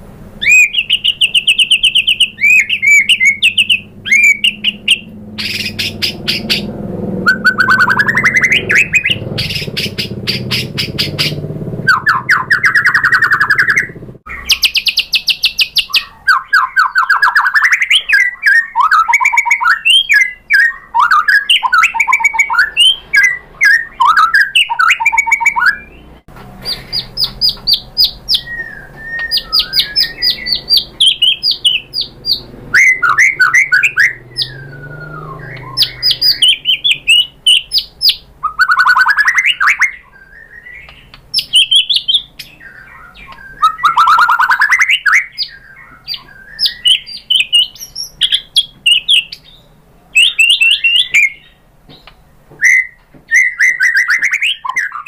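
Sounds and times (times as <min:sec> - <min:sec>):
bird singing varied song: 0:00.4 - 0:55.0.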